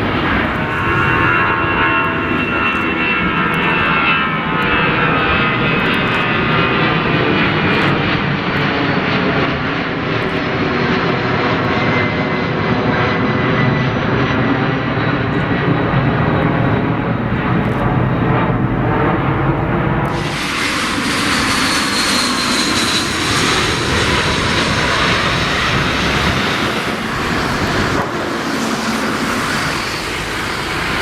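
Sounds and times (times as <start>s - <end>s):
high engine whine: 0.0s - 31.0s
jet engines running: 0.0s - 31.0s.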